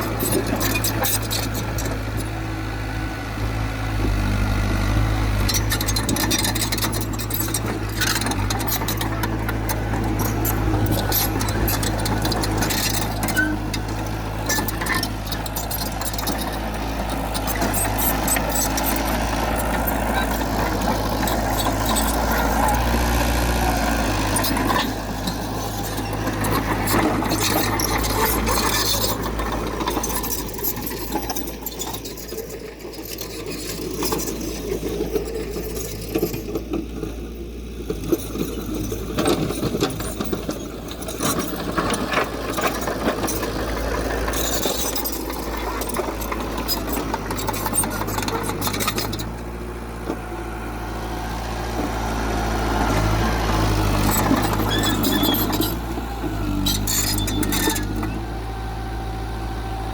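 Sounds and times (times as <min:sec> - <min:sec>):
heavy machinery diesel engines: 0:00.0 - 0:59.9
machinery clanks and rattles: 0:00.0 - 0:59.9.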